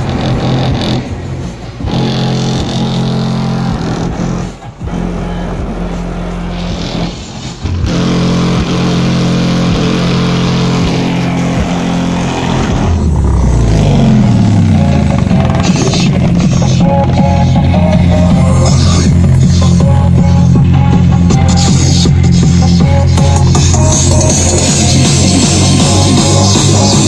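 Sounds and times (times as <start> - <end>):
bass-heavy music from car subwoofers: 0.0 - 27.0.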